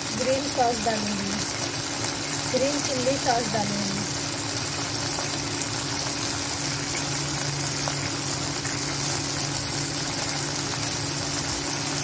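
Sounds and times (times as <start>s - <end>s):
cooling fan hum: 0.0s - 12.0s
vegetables frying in oil: 0.0s - 12.0s.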